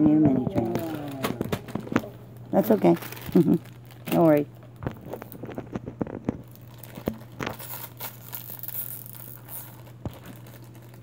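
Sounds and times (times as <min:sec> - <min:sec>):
steady low hum: 0:00.0 - 0:11.0
plastic wrapper tearing and crinkling: 0:00.4 - 0:11.0.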